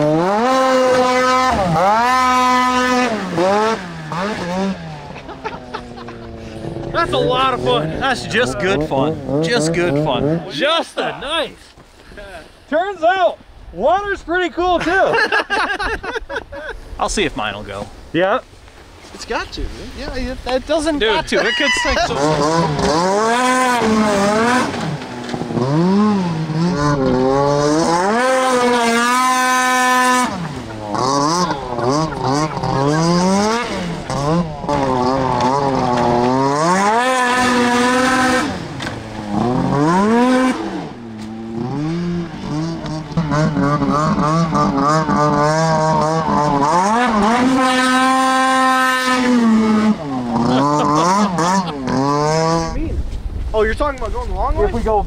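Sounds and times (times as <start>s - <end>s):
snowmobile engines revving: 0.0s - 18.5s, 19.1s - 55.0s.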